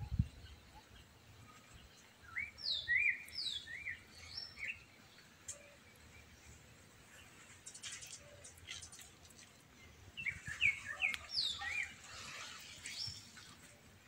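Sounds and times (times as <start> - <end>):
bird singing: 0.0 - 13.9.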